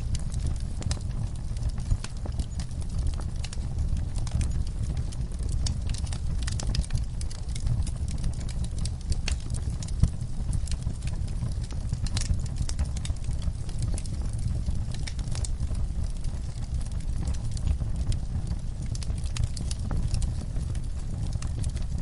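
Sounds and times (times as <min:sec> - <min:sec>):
fire crackling in fireplace: 0:00.0 - 0:22.0.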